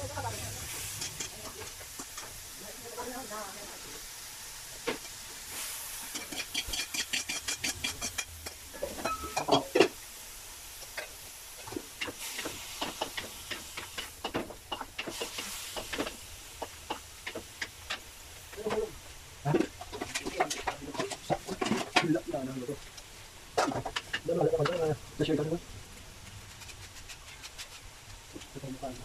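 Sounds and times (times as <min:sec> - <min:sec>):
spatula scraping and knocking wok: 0:00.0 - 0:10.1, 0:10.7 - 0:28.8
stir-fry sizzle and hiss: 0:00.0 - 0:29.0.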